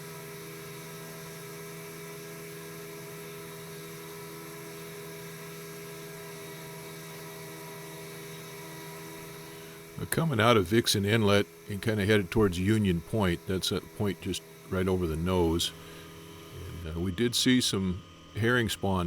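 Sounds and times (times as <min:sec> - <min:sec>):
plane engine and propeller droning: 0:00.0 - 0:19.0.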